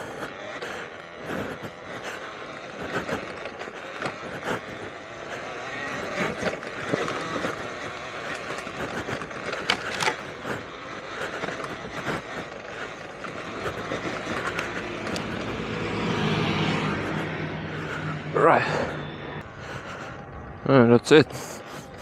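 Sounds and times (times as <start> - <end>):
dirt bike tyre and chain rattle: 0.0 - 18.0
low electric motor hum: 0.0 - 20.6.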